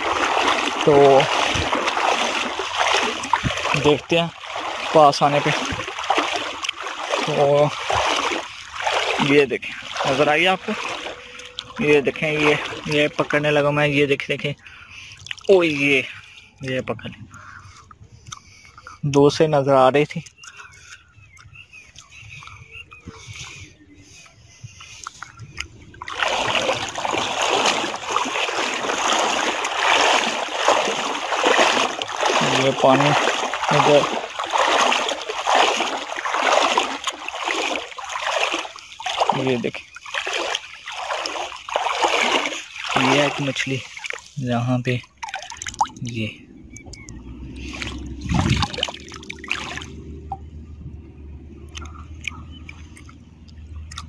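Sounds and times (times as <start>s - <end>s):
river water splashing: 0.0s - 16.8s, 24.8s - 54.0s.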